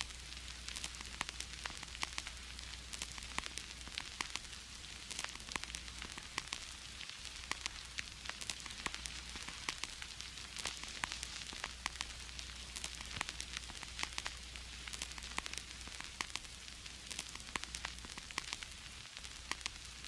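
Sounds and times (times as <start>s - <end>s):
vinyl crackles and pops: 0.0s - 20.0s
vinyl surface hiss: 0.0s - 20.0s.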